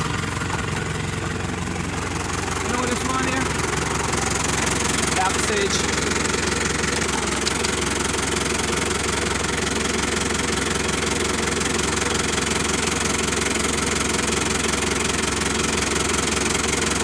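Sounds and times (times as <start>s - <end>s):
vehicle engine chugging: 0.0s - 17.0s.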